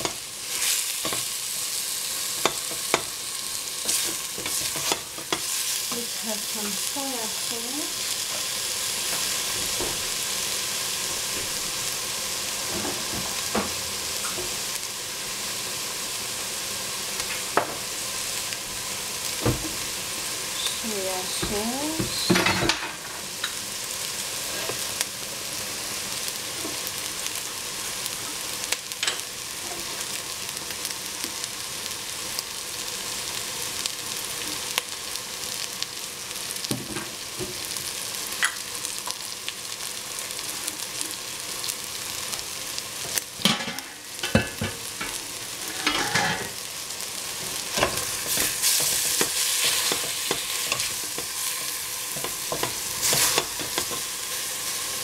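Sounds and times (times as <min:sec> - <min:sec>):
meat sizzling in a pot: 0:00.0 - 0:55.0.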